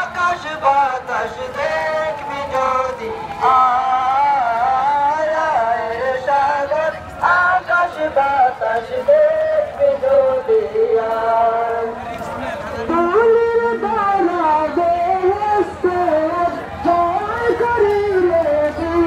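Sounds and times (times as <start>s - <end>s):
man singing devotional song: 0.0s - 19.0s.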